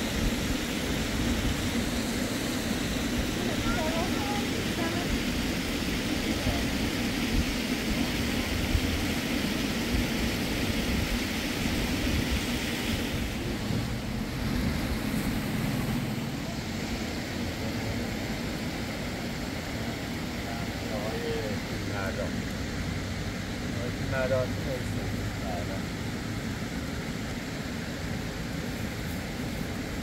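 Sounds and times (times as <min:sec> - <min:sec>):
low engine rumble: 0:00.0 - 0:10.5, 0:12.8 - 0:30.0
road hiss: 0:00.0 - 0:30.0.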